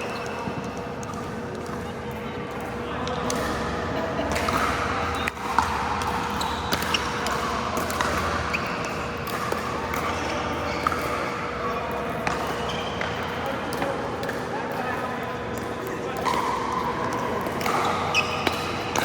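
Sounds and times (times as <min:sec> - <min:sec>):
ball bouncing on indoor court: 0:02.5 - 0:19.0.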